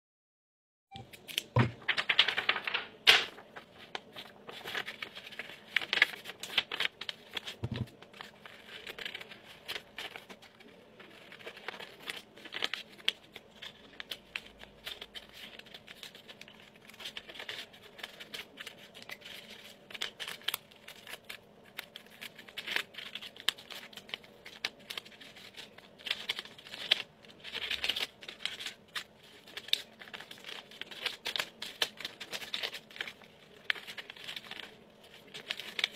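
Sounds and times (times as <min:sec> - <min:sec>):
paper folding and crinkling: 0:01.0 - 0:35.9
scissors snipping paper: 0:03.9 - 0:35.9.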